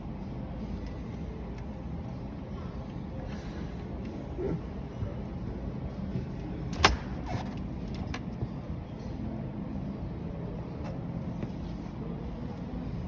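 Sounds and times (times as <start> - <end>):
shop floor hum: 0.0 - 13.0.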